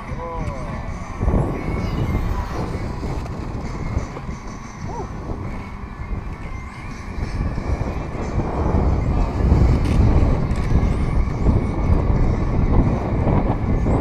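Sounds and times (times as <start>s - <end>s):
faint chirp-like glide: 0.0s - 14.0s
wind buffeting microphone: 0.0s - 14.0s.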